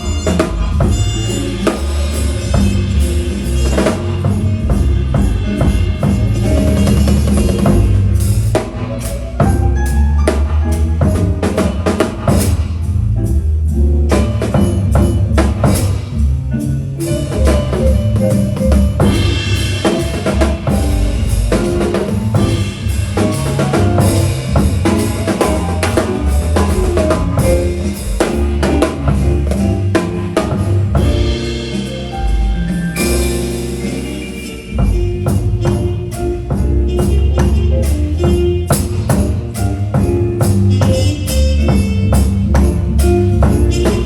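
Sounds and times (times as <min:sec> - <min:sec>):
bass drum: 0:00.0 - 0:44.0
cymbals: 0:00.0 - 0:44.0
drum kit playing groove: 0:00.0 - 0:44.0.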